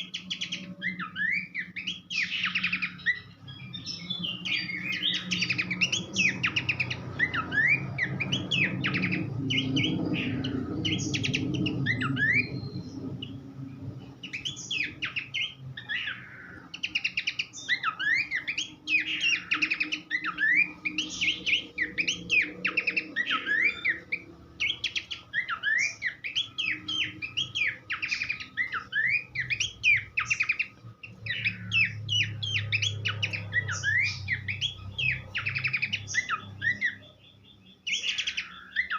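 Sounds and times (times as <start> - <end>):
bird chirping and whistling: 0.0 - 38.9.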